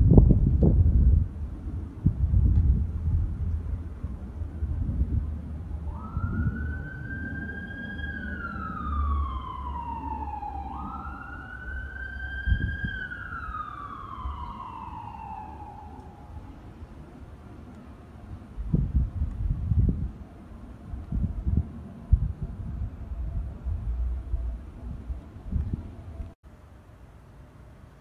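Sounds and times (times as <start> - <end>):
low rumble: 0.0 - 26.4
emergency siren wailing: 2.9 - 26.4.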